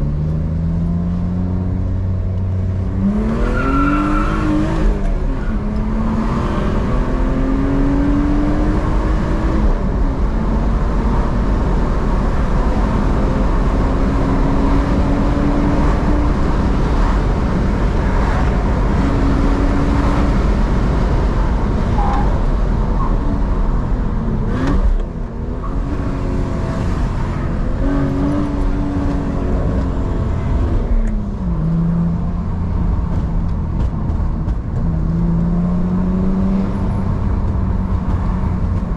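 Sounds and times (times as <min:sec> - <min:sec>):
car engine accelerating: 0:00.0 - 0:38.9
road and tyre noise: 0:00.0 - 0:38.9.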